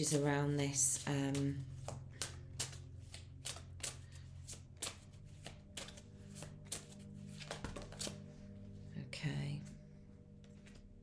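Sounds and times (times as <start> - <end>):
cards being shuffled: 0.0 - 8.4, 10.4 - 11.0
faint background music: 0.0 - 11.0.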